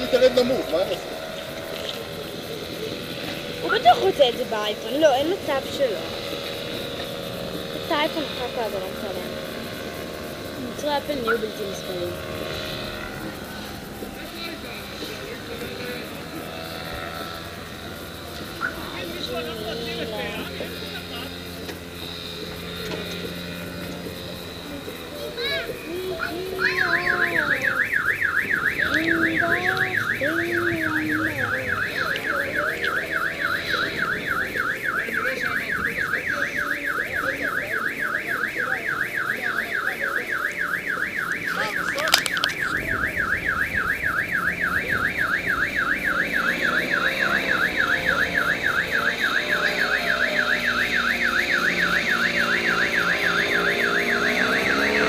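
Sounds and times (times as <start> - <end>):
warbling electronic alarm: 0.0 - 55.0.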